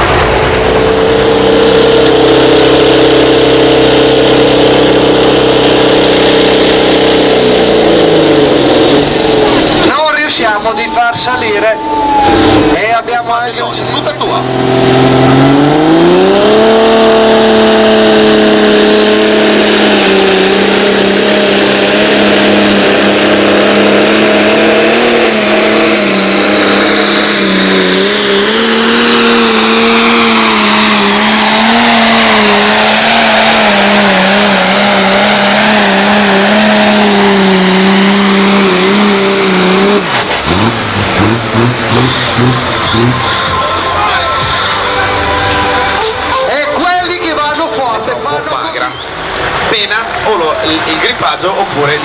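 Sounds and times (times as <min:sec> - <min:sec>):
tractor engine revving: 0:00.0 - 0:52.0.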